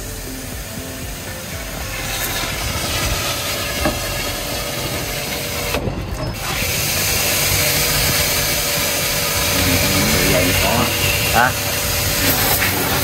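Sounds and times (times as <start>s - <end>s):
rushing water hiss: 0.0s - 13.0s.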